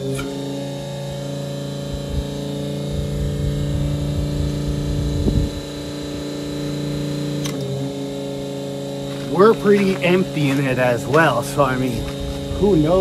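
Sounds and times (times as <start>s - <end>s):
electric pump humming: 0.0s - 13.0s.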